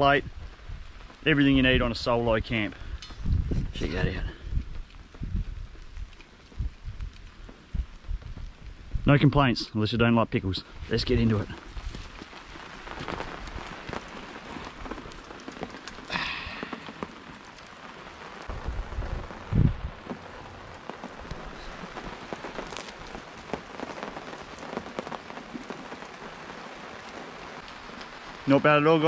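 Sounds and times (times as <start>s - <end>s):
steady rain pattering: 0.0s - 29.0s.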